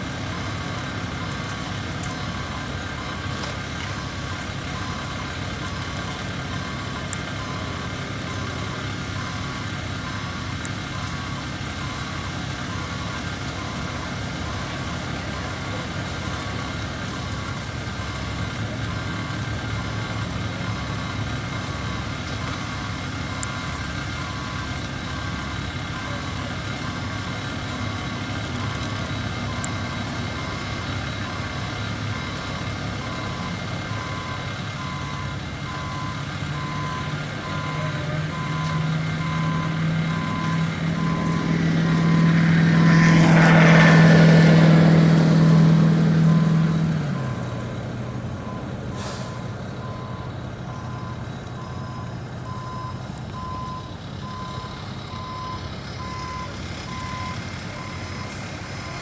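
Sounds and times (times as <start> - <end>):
diesel engine revving: 0.0 - 59.0
reversing alarm beeping: 0.1 - 59.0.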